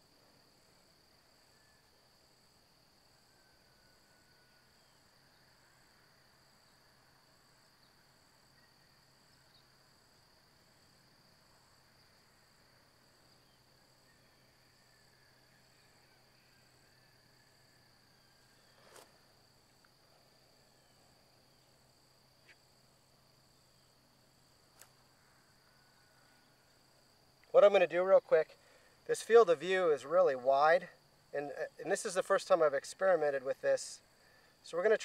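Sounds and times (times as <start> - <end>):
high insect drone: 0.0 - 35.0.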